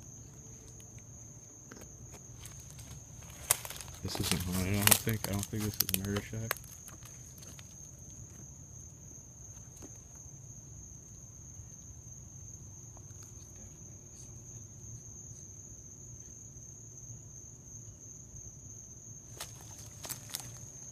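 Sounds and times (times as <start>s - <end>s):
crickets chirring: 0.0s - 20.9s.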